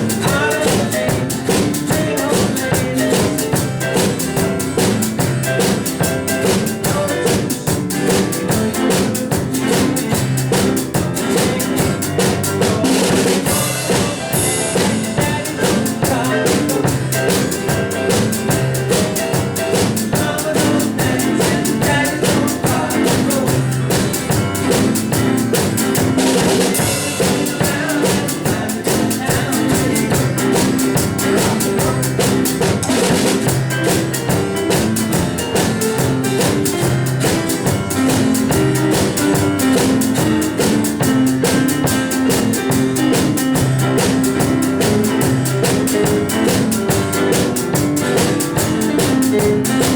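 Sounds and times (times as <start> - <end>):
bass guitar: 0.0 - 49.9
drum kit beat: 0.0 - 49.9
electric guitar: 0.0 - 49.9
piano: 0.0 - 49.9.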